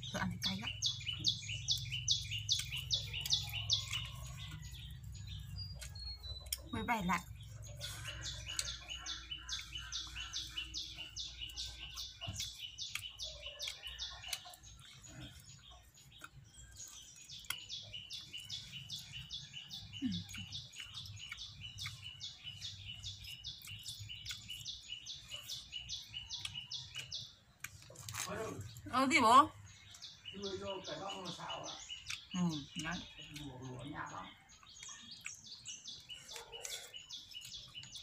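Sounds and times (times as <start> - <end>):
small bird chirping: 0.0 - 38.0.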